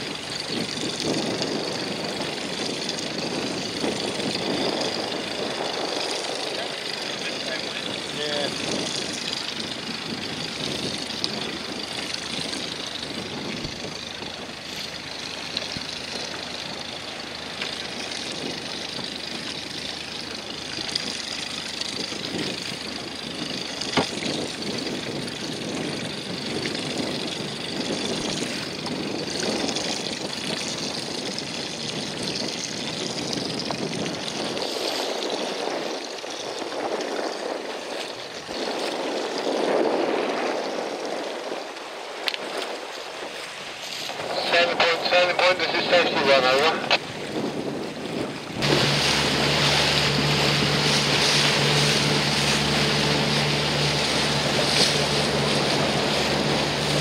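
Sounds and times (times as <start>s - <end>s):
sea water splashing around boat: 0.0s - 57.0s
wind on microphone: 0.0s - 57.0s.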